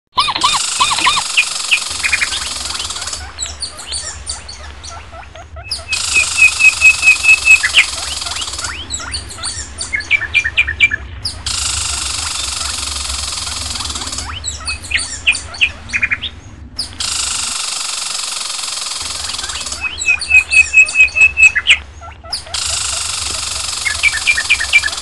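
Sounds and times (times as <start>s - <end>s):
small birds chirping: 0.1s - 25.0s
steady high hiss: 0.6s - 25.0s.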